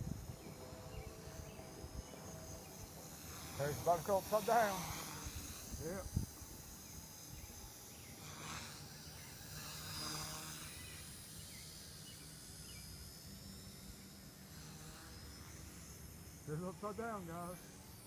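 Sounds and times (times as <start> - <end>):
low rotor hum: 0.0 - 18.0
rc helicopter motor whine: 0.0 - 18.0.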